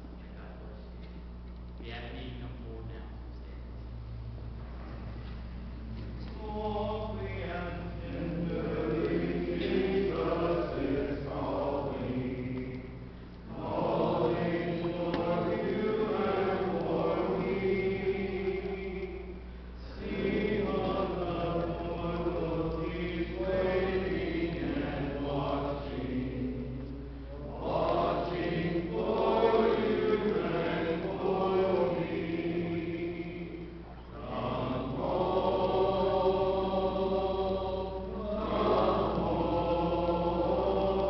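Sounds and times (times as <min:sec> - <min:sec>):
congregation singing a hymn: 0:05.0 - 0:41.0.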